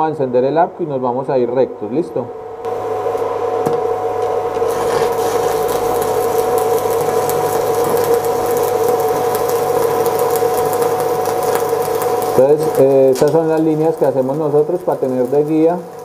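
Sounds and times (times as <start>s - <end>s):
steady hum: 0.0s - 16.0s
welding arc crackling hiss: 2.6s - 16.0s.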